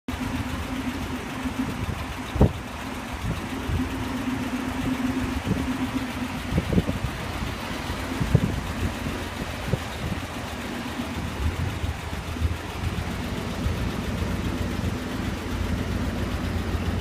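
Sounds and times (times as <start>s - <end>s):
engine low hum: 0.1s - 17.0s.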